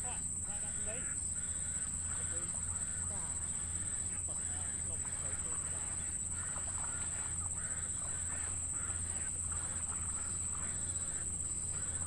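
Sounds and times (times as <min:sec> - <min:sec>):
nestlings calling rapidly: 0:00.0 - 0:12.0.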